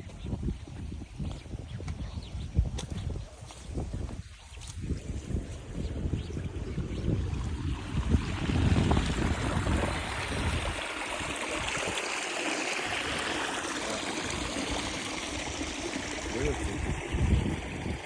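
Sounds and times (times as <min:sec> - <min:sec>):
wind buffeting microphone: 0:00.0 - 0:18.0
water rushing like a stream: 0:02.6 - 0:18.0.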